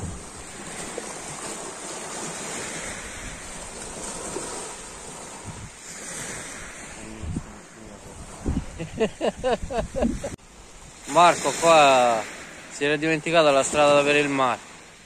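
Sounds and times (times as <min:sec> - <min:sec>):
wind buffeting microphone: 0:00.0 - 0:12.7
sea surf washing: 0:00.0 - 0:15.0.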